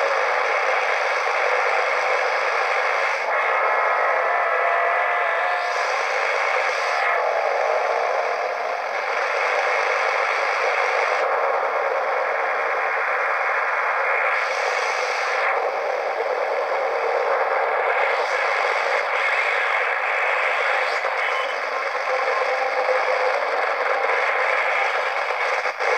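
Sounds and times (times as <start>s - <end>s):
radio static hiss: 0.0s - 25.9s.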